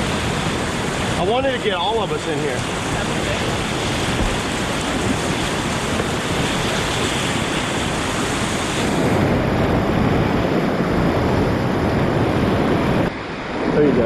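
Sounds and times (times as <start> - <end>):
creek whitewater roaring: 0.0 - 14.0.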